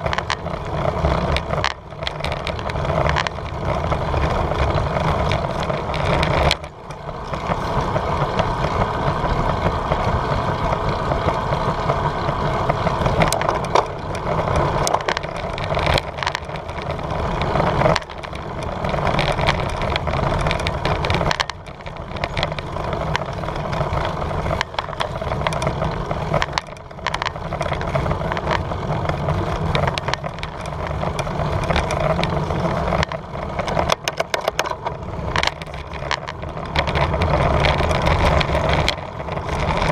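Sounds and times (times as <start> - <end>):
bicycle tyre and road noise: 0.0 - 39.9.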